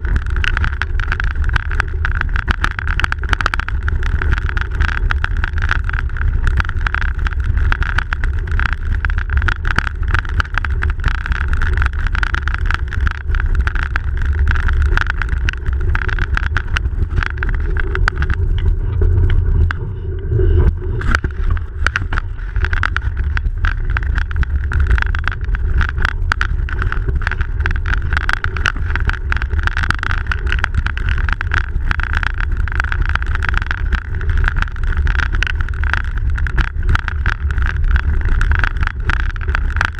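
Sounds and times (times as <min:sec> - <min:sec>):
bike rattles and clicks: 0:00.0 - 0:19.8, 0:20.6 - 0:39.9
bicycle tyres rumbling on snow: 0:00.0 - 0:39.9.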